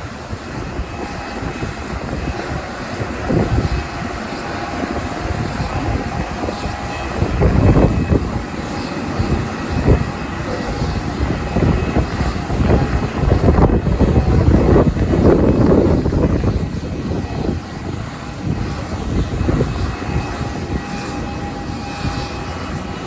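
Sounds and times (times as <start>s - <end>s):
jet engines whining: 0.0s - 23.0s
wind buffeting microphone: 0.0s - 23.0s.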